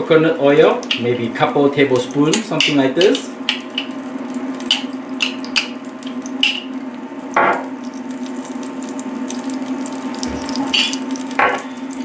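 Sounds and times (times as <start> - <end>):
induction cooktop hum: 0.0 - 12.0
oil sizzling in a pot: 1.9 - 12.0.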